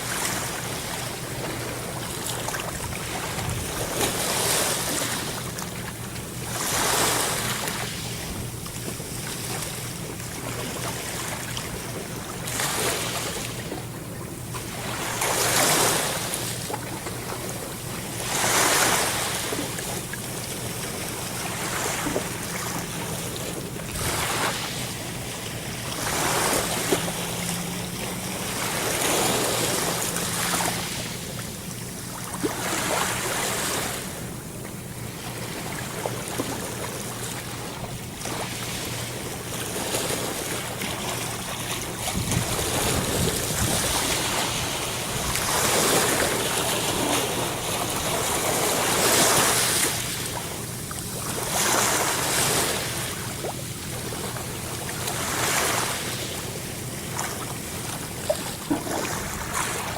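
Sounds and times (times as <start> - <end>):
sea waves breaking: 0.0 - 59.9
steady low hum: 0.0 - 59.9.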